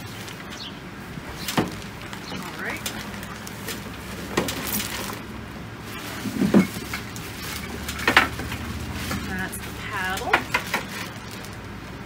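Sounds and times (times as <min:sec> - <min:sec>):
plastic wrap rustling: 0:00.0 - 0:12.0.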